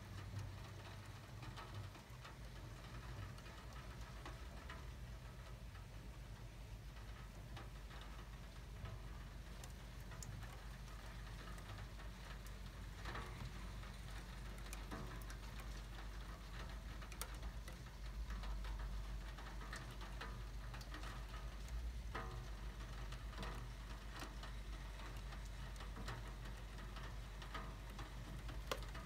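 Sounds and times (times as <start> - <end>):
light rain falling: 0.0 - 29.0
raindrops ticking on surfaces: 0.0 - 29.0.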